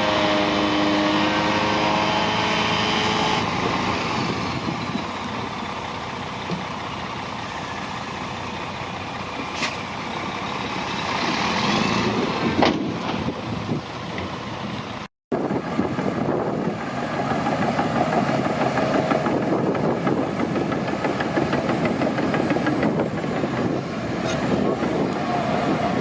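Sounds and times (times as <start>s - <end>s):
diesel earthmoving machinery running: 0.0s - 26.0s.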